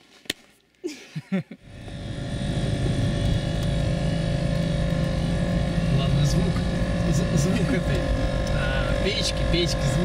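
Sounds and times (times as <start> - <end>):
heater fan running: 1.3 - 10.0
car engine running: 1.6 - 10.0.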